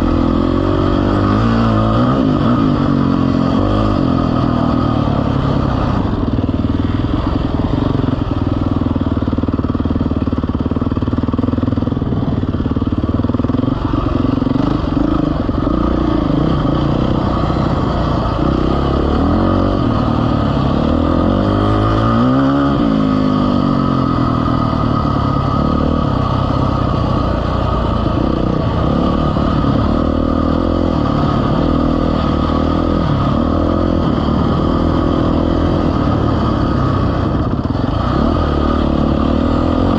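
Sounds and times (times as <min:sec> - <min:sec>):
vehicle engine revving: 0:00.0 - 0:08.3, 0:13.5 - 0:39.9.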